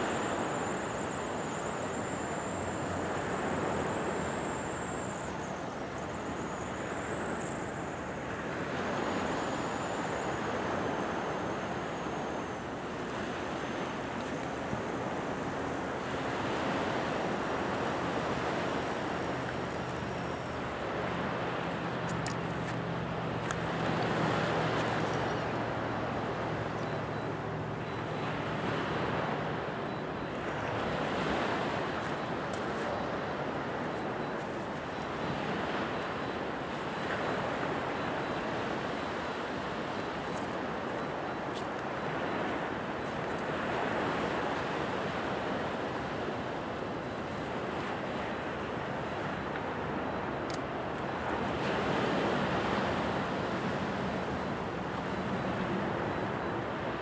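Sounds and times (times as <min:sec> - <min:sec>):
surf on sandy beach: 0:00.0 - 0:57.0.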